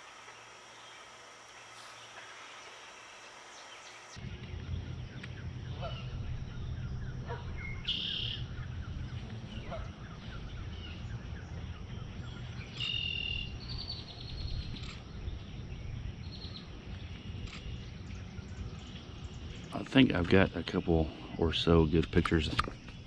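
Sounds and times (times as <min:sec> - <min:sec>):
blackbirds singing buzzy phrases: 0:00.0 - 0:23.0
steady low rumble: 0:04.2 - 0:23.0.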